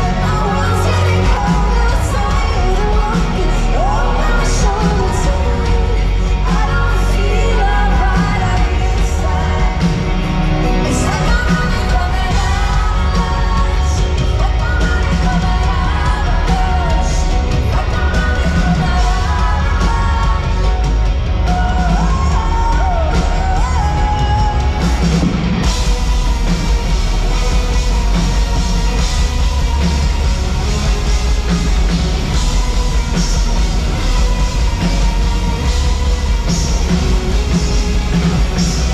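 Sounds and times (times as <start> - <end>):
live rock band playing: 0.0 - 38.9
woman singing: 0.0 - 38.9.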